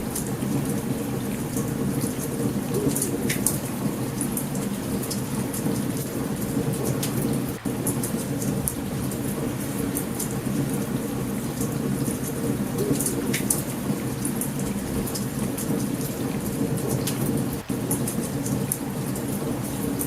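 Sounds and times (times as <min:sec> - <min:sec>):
heavy rain: 0:00.0 - 0:20.0
low rumble of thunder: 0:00.0 - 0:20.0.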